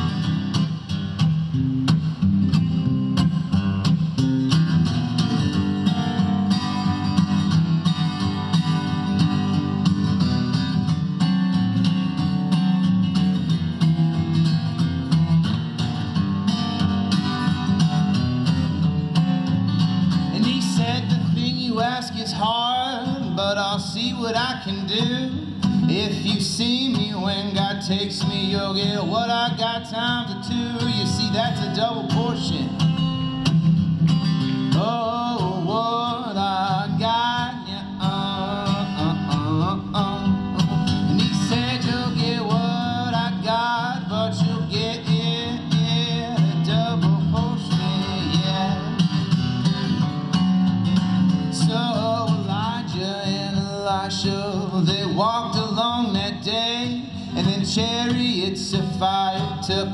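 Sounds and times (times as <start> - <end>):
acoustic guitar: 0.0 - 59.9
country song with singing: 0.0 - 59.9.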